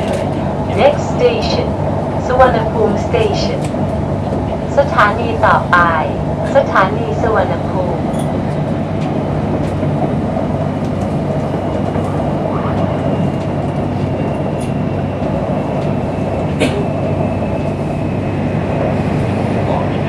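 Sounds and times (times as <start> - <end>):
electric train interior rumble: 0.0 - 20.0.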